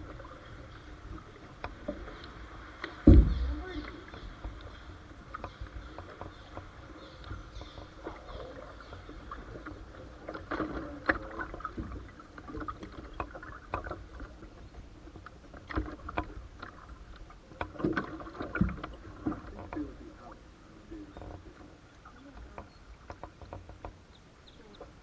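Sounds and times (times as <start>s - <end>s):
paddle splashing in water: 0.0s - 20.4s.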